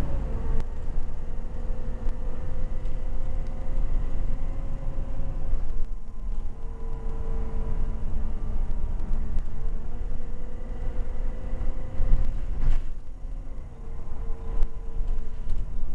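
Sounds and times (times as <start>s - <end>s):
bus diesel engine rumble: 0.0s - 15.9s
drivetrain whine: 0.0s - 15.9s.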